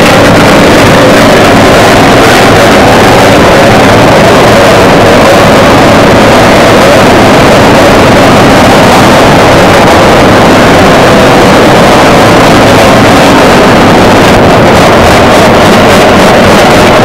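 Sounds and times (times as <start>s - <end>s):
aircraft engines droning: 0.0s - 17.0s.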